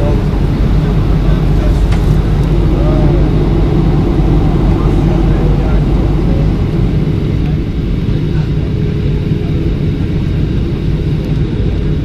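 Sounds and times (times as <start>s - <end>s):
jet cabin noise rumble: 0.0s - 12.0s.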